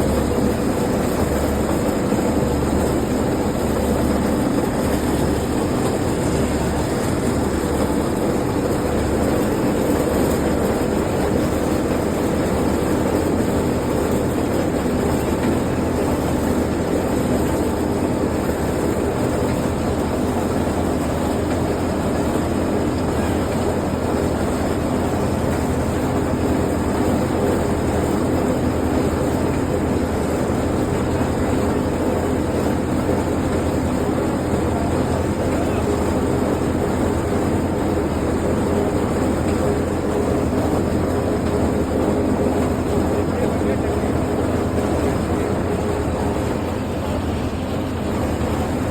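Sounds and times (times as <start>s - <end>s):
road roller diesel engine running: 0.0s - 48.9s.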